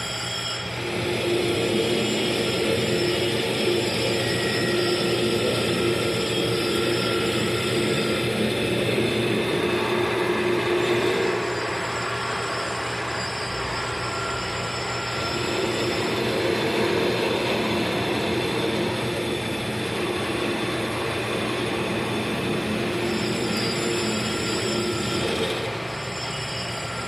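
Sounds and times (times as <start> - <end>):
lathe cutting with whine: 0.0 - 27.0.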